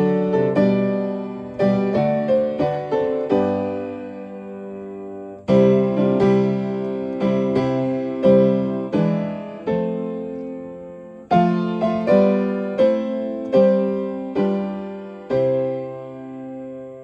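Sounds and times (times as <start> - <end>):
upright piano playing hymn chords: 0.0 - 17.0.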